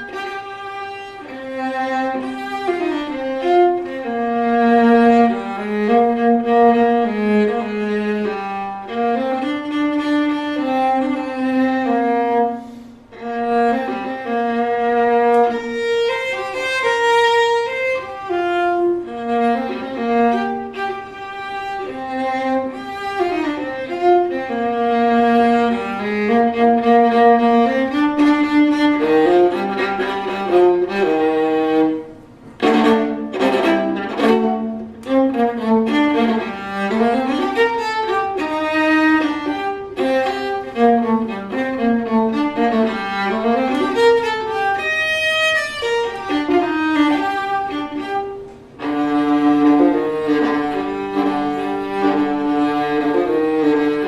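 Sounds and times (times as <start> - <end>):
fiddle playing waltz melody: 0.0 - 54.0.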